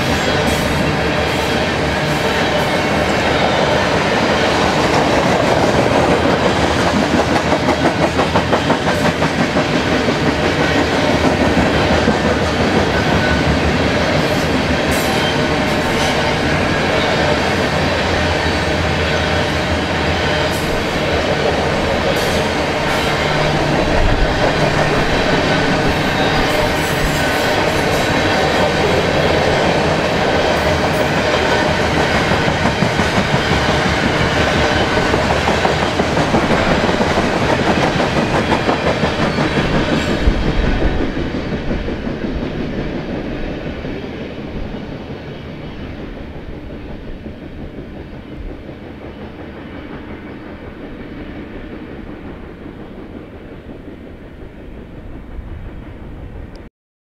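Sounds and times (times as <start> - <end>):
freight train wheels clattering: 0.0 - 55.9.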